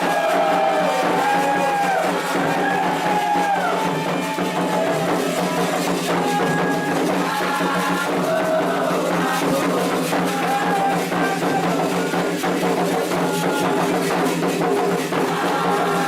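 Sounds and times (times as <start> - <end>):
hand drums beating a rhythm: 0.0 - 16.0.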